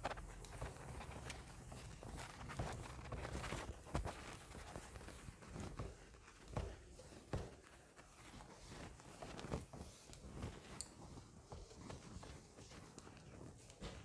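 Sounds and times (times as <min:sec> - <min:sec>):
cloth wiping whiteboard: 0:00.0 - 0:14.0.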